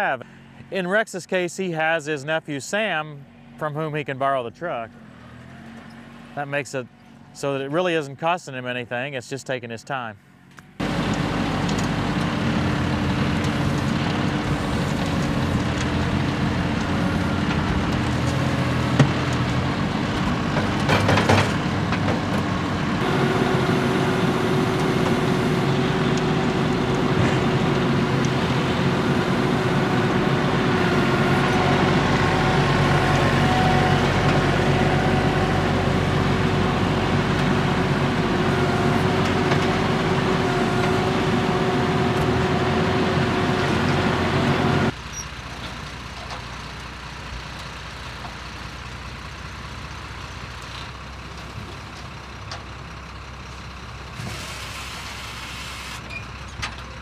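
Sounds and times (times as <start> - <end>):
tractor diesel engine under load: 0.0 - 9.2, 10.0 - 57.0
truck engine running: 10.2 - 57.0.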